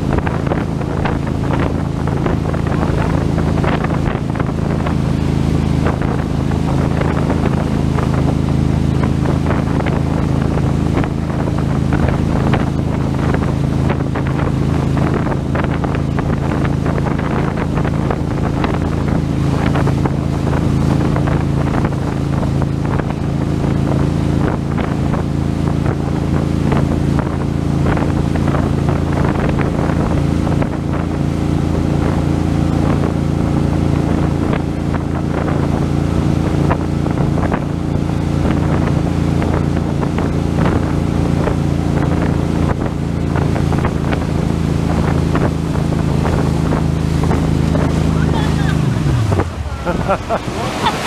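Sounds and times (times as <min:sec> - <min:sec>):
boat engine droning: 0:00.0 - 0:51.0
wake churning and splashing: 0:00.0 - 0:51.0
wind buffeting microphone: 0:00.0 - 0:51.0.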